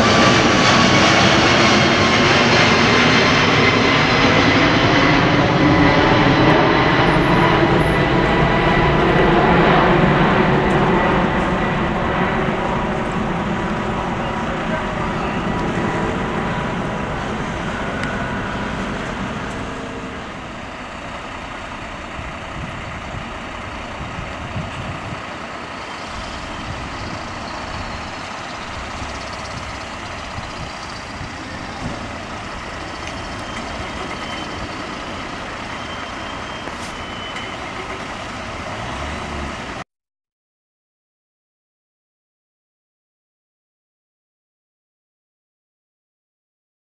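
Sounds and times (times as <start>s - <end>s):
jet engines rumbling: 0.0s - 39.8s.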